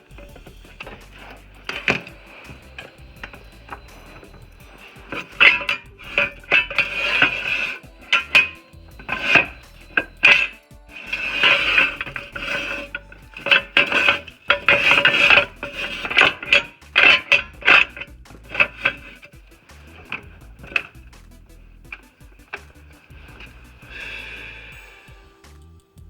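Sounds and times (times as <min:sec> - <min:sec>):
metal tools clanking and scraping: 0:00.0 - 0:25.0.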